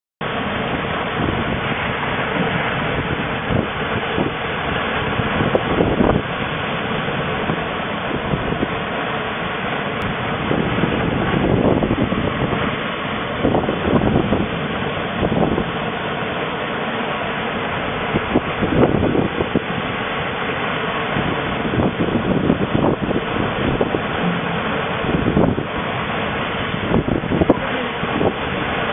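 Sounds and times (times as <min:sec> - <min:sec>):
seawater rushing and breaking: 0:00.2 - 0:28.9
wind noise on microphone: 0:00.2 - 0:28.9.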